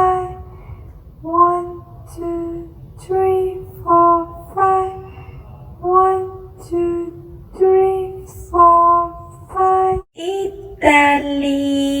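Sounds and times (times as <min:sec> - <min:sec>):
high voice singing: 0:00.0 - 0:00.6, 0:01.2 - 0:05.2, 0:05.8 - 0:12.0.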